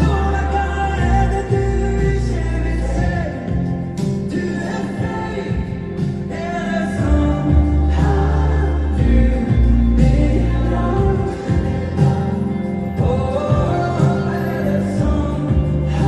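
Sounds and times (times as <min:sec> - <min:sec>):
deep bass line: 0:00.0 - 0:16.0
live amplified pop music: 0:00.0 - 0:16.0
person singing: 0:00.0 - 0:16.0.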